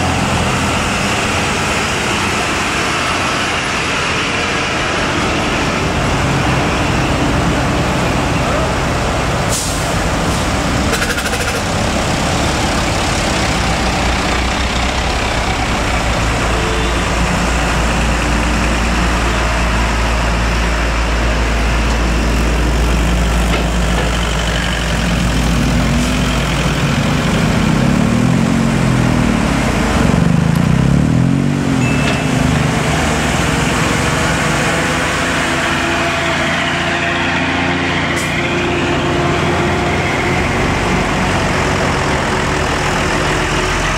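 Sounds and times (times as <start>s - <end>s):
diesel trucks idling: 0.0s - 43.9s.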